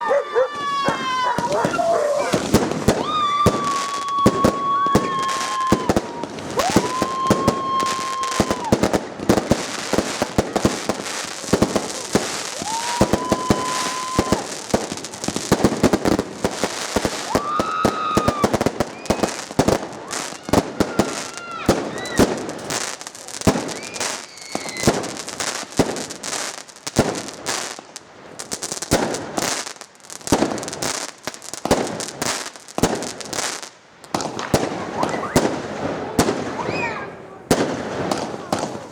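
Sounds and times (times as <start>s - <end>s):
fireworks bursting cracks: 0.0s - 38.9s
fireworks whistles: 0.5s - 27.6s, 31.7s - 38.9s.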